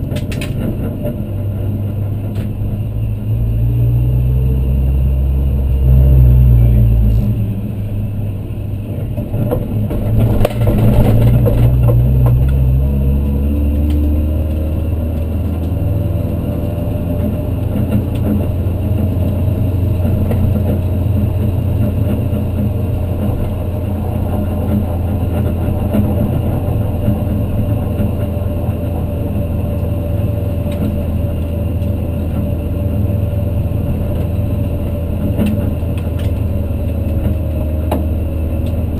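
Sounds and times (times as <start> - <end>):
race car engine at low revs: 0.0 - 38.9.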